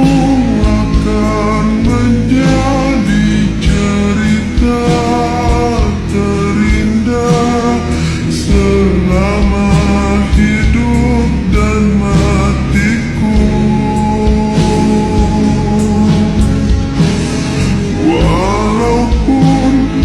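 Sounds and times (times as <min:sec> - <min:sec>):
song with guitar bass and beat: 0:00.0 - 0:20.0.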